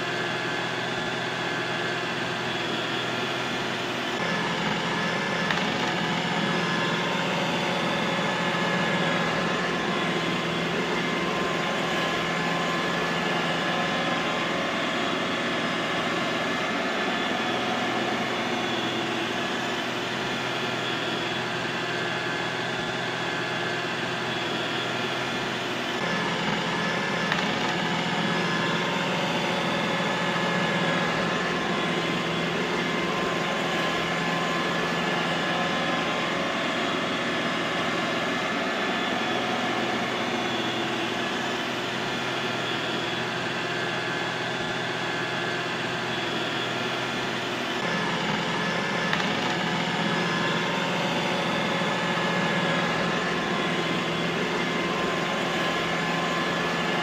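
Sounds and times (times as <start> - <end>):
robot vacuum cleaner whirring: 0.0 - 57.0.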